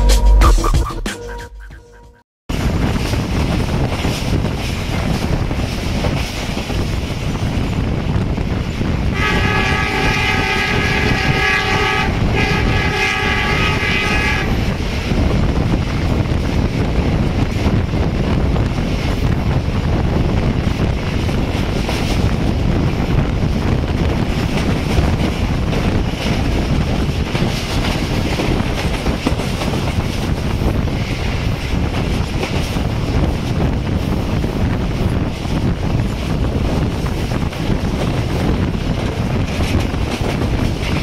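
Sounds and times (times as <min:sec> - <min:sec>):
train wheels rumbling on rails: 0:02.5 - 0:41.0
wind buffeting microphone: 0:02.5 - 0:41.0.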